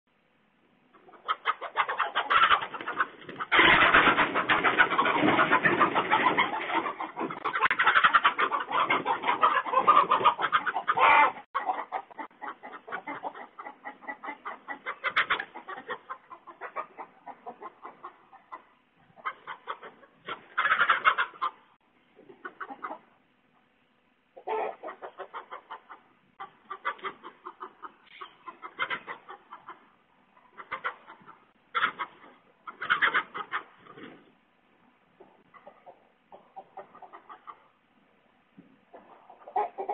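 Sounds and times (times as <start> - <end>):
hens clucking and cackling: 0.7 - 39.9.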